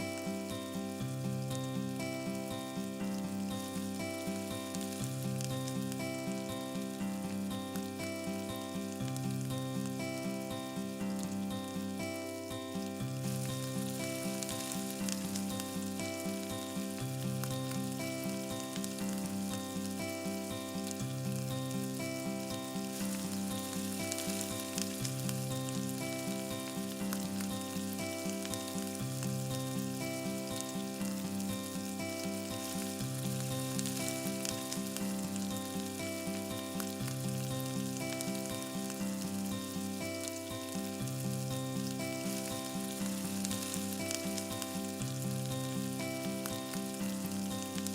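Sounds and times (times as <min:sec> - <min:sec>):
background music with melody: 0:00.0 - 0:47.9
food sizzling in a pot: 0:00.0 - 0:47.9.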